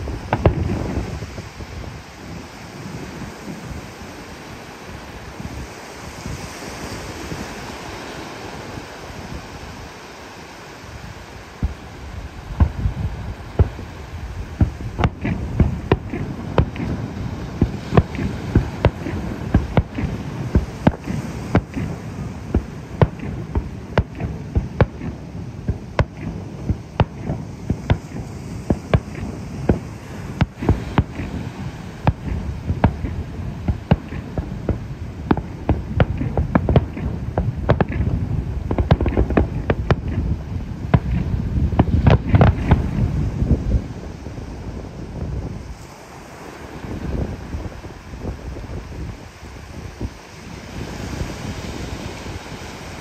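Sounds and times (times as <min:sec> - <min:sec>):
fireworks bursting with sharp bangs: 0:00.0 - 0:53.0
surf washing on shore: 0:00.0 - 0:53.0
wind buffeting microphone: 0:00.0 - 0:53.0.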